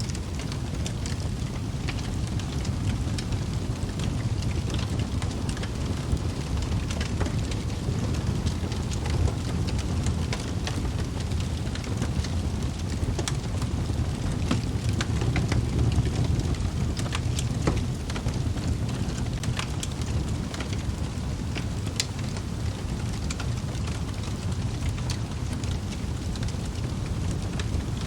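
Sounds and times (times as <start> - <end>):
fire rumbling: 0.0 - 28.0
logs crackling and popping: 0.0 - 28.0.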